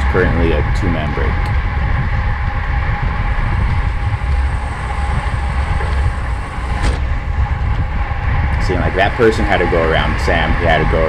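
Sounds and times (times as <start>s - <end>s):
road rumble: 0.0s - 11.0s
wind noise: 0.0s - 11.0s.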